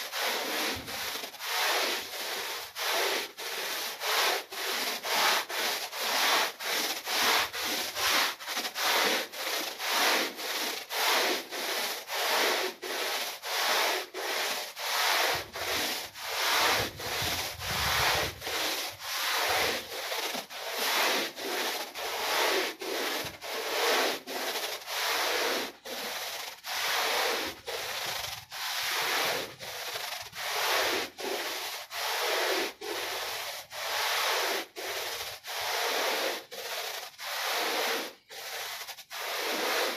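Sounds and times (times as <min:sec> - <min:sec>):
brush scrubbing wet rug: 0:00.0 - 0:39.9.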